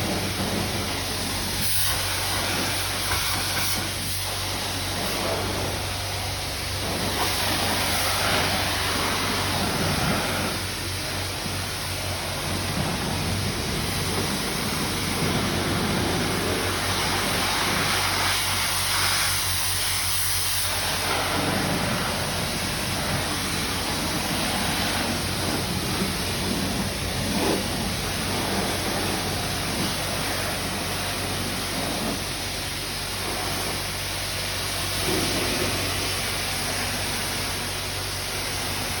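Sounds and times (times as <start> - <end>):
pressure washer spray hissing: 0.0 - 39.0.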